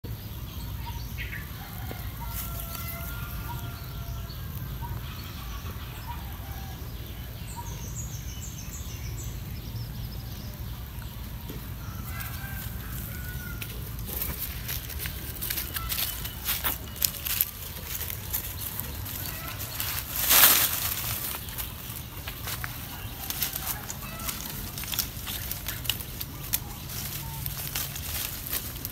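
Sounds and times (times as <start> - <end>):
dry leaves crackling: 0.2 - 28.9
steady low rumble: 3.2 - 28.9.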